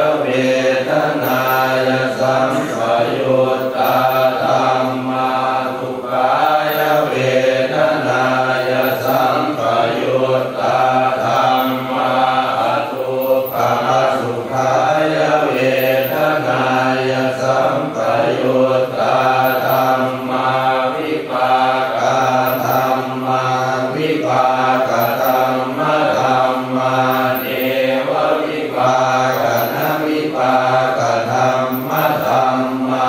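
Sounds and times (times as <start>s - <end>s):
voices chanting in monotone: 0.0s - 33.0s.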